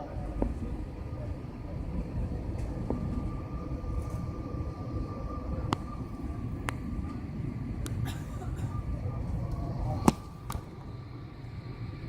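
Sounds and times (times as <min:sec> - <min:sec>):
airliner cabin rumble: 0:00.0 - 0:12.0
faint steady whine: 0:00.0 - 0:12.0.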